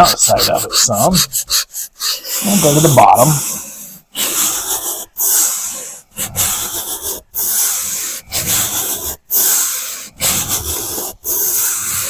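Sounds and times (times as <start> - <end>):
hand sander sanding: 0.0 - 12.0.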